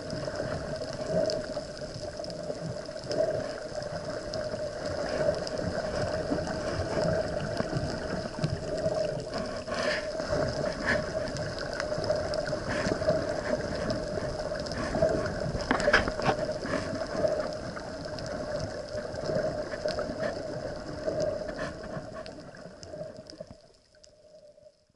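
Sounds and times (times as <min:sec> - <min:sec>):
steady underwater hum: 0:00.0 - 0:24.9
water noise: 0:00.0 - 0:24.9.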